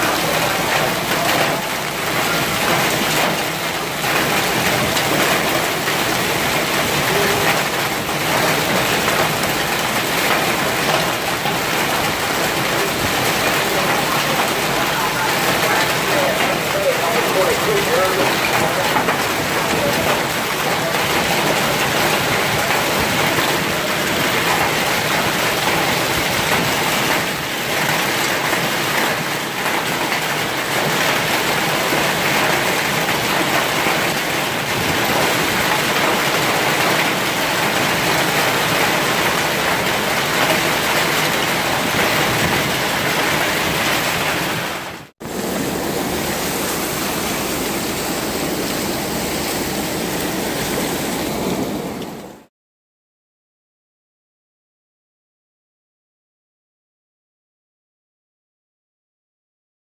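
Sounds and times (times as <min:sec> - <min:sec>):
heavy rain and hail pelting: 0:00.0 - 0:52.5.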